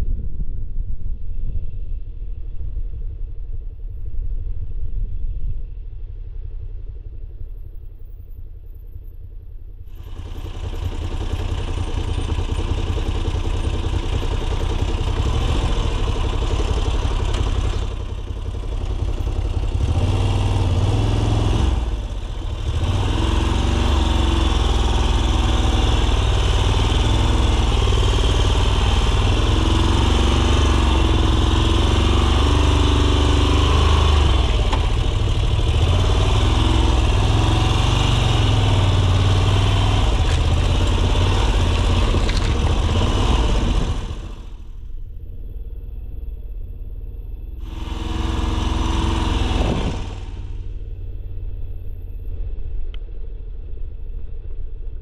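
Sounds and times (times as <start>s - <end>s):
motorcycle engine running: 9.9s - 55.0s.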